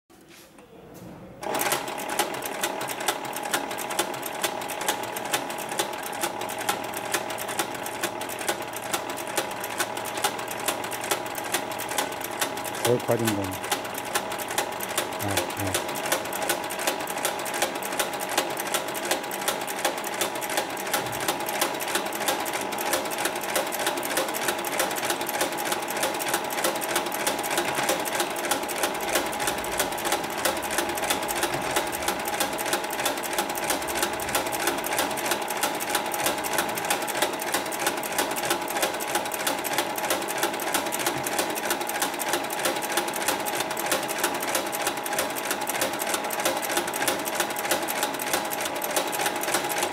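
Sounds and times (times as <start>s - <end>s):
sewing machine stitching: 1.4s - 49.9s.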